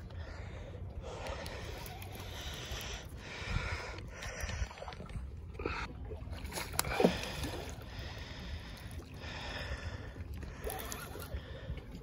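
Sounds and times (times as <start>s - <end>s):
water lapping against rocks: 1.0s - 12.0s.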